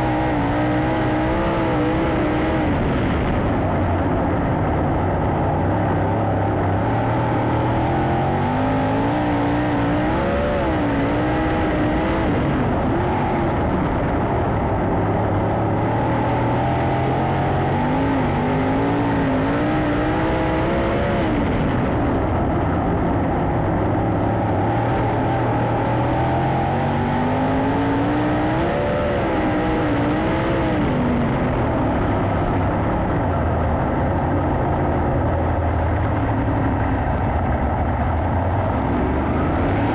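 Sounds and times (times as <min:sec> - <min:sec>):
race car engines: 0:00.0 - 0:39.9.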